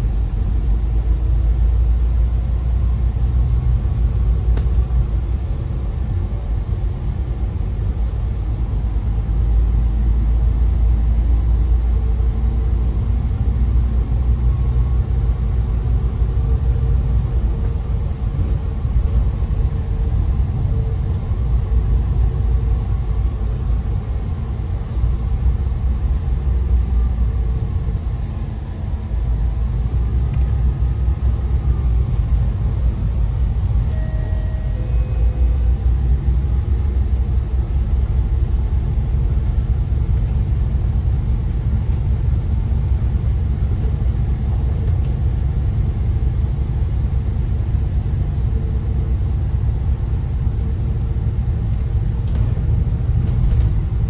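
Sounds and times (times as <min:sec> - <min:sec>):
bus engine and road rumble: 0:00.0 - 0:54.0
faint whine: 0:00.0 - 0:54.0.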